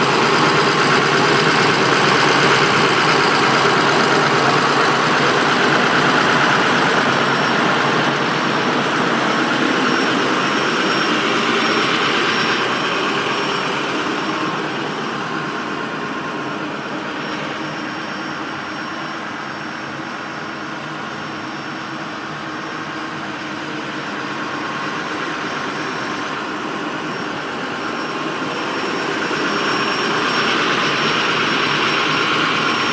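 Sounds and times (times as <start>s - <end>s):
diesel truck engine idling: 0.0s - 32.9s.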